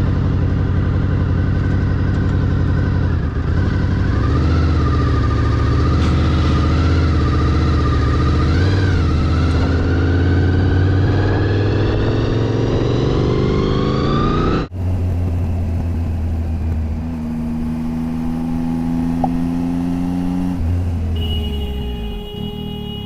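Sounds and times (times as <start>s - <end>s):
vehicle engine accelerating: 0.0s - 22.0s
engine and road noise: 0.0s - 23.0s.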